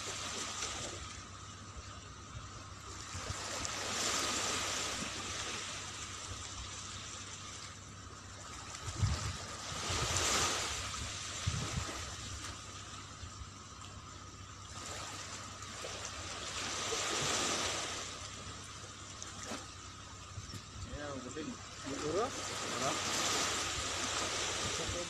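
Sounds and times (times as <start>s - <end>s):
small waves washing onto beach: 0.0s - 25.0s.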